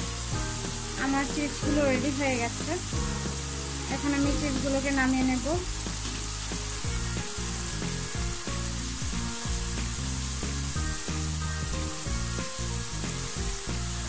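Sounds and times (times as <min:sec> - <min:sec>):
potato slices sizzling in oil: 0:00.0 - 0:14.0.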